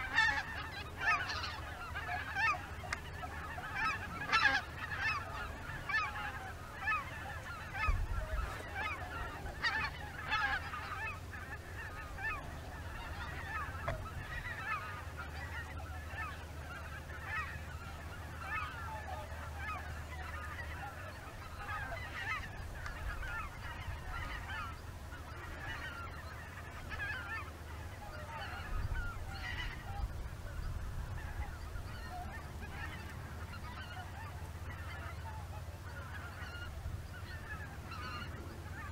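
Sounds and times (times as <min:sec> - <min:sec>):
geese calling in flight: 0:00.0 - 0:38.9.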